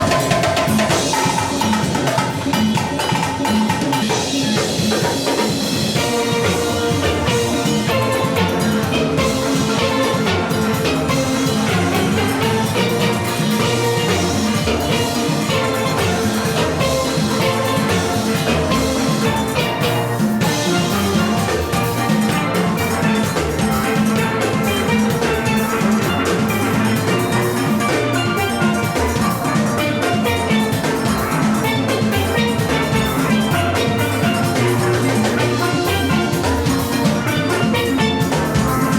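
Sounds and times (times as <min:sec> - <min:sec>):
drum kit and percussion: 0:00.0 - 0:38.9
steelpan band playing: 0:00.0 - 0:38.9.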